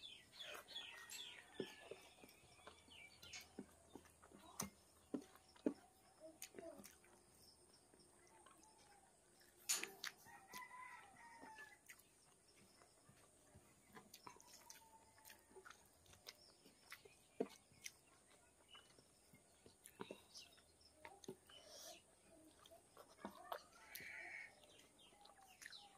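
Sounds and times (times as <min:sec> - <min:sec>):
chewing: 0:00.1 - 0:25.9.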